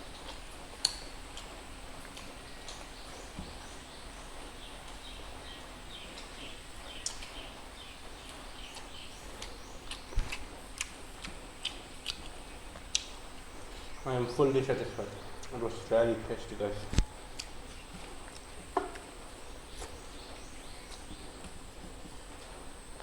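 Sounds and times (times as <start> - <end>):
mouth clicks and smacks chewing: 0.1 - 14.0, 16.8 - 22.7.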